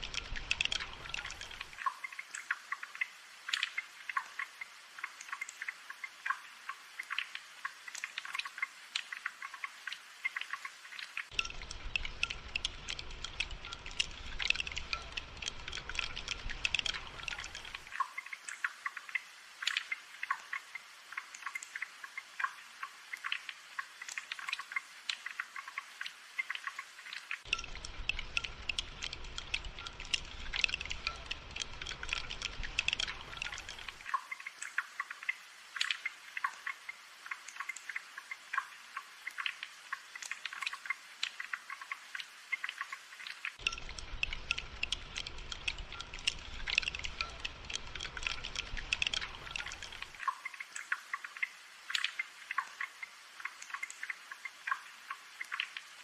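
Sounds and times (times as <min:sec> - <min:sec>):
rain dripping: 0:00.0 - 0:56.0.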